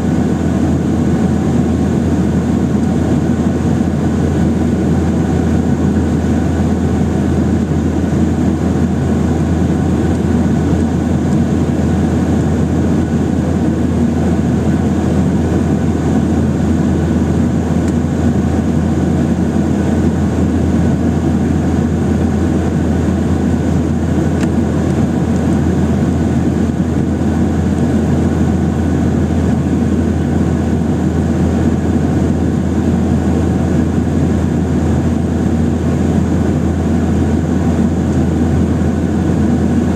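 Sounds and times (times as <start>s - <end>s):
jet engines and airflow rushing: 0.0s - 39.9s.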